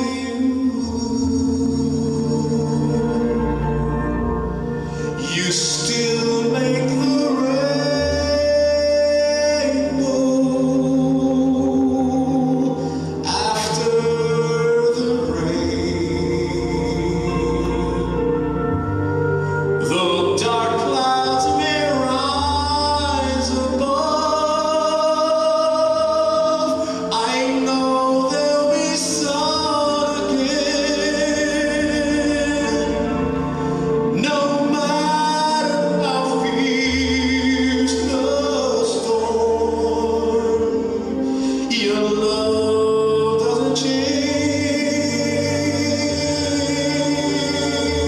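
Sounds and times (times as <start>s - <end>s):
christian song with singing: 0.0s - 48.0s.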